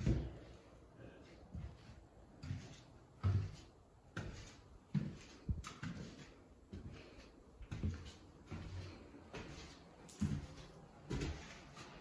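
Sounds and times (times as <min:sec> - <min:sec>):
footsteps on bare floor: 0:00.0 - 0:12.0.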